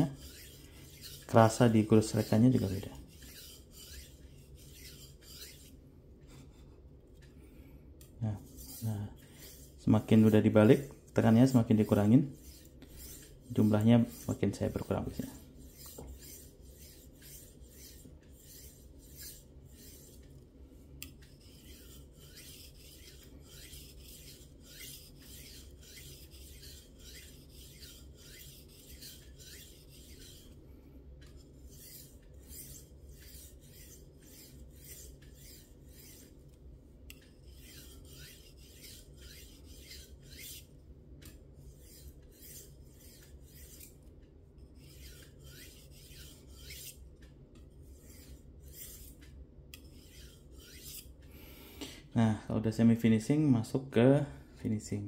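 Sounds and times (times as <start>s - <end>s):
knife scraping on whetstone: 0.0s - 5.8s, 8.4s - 20.4s, 21.0s - 30.6s, 31.2s - 40.7s, 41.3s - 47.0s, 47.8s - 51.2s.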